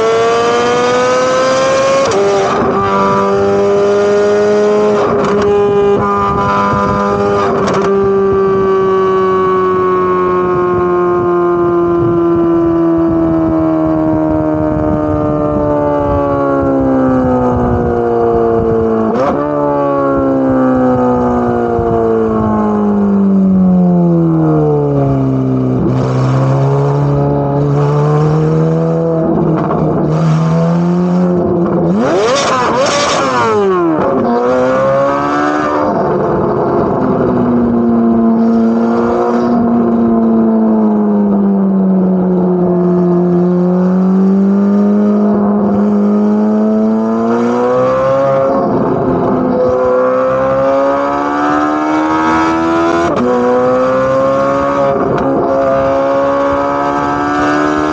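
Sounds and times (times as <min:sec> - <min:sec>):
car exhaust on the move: 0:00.0 - 0:57.9.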